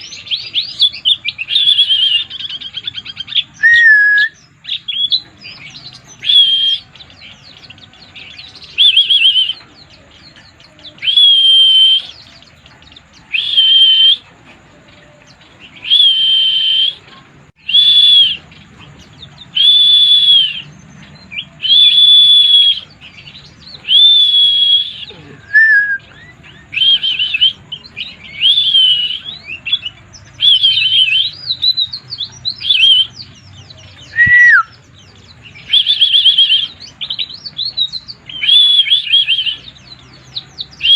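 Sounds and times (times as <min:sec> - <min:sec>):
bird whistling and twittering: 0:00.0 - 0:40.9.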